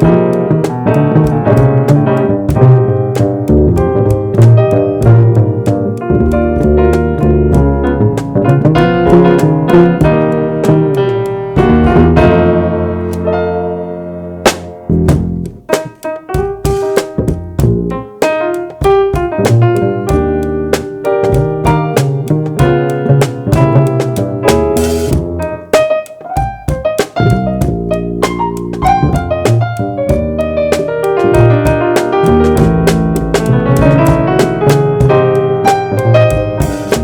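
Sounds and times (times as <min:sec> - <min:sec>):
light drums: 0:00.0 - 0:12.5, 0:14.5 - 0:37.0
jazz piano chords and runs: 0:00.0 - 0:37.0
upright bass: 0:00.0 - 0:37.0.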